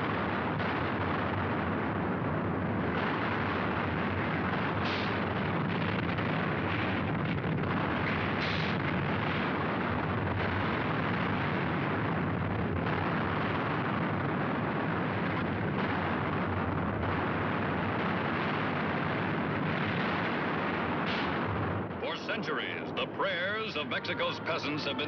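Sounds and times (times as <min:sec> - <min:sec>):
volcano eruption rumble: 0:00.0 - 0:25.0.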